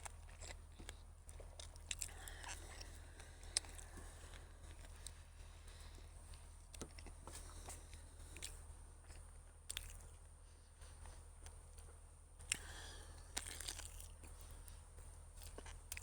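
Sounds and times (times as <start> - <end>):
sharp chewing clicks: 0.0 - 10.3, 11.0 - 16.0
person chewing sausage: 0.0 - 16.0.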